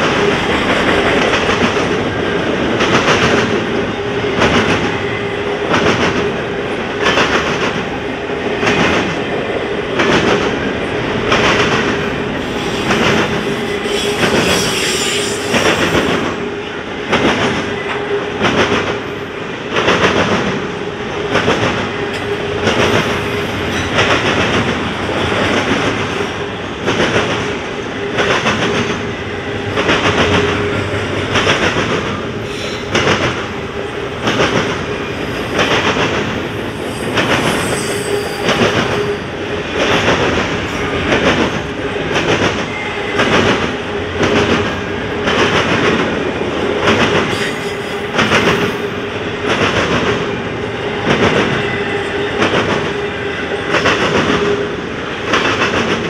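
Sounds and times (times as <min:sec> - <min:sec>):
continuous train rumble: 0:00.0 - 0:56.0.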